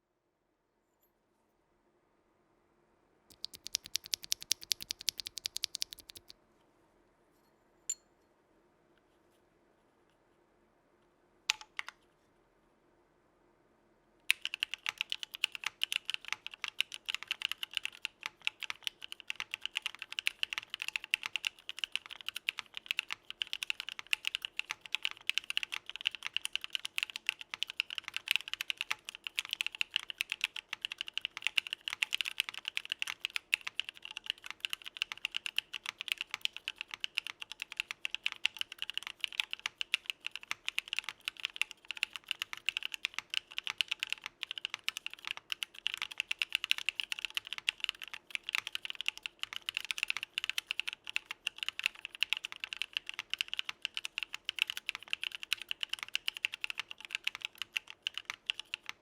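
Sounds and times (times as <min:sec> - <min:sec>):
fast mechanical keyboard typing: 0:03.3 - 0:06.3, 0:14.3 - 0:59.0.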